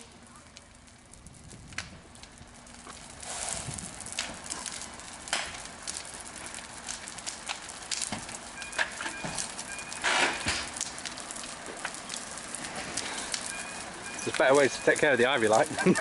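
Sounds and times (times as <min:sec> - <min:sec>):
burning car crackling: 0:00.0 - 0:16.0
sharp pops and snaps: 0:00.5 - 0:15.1.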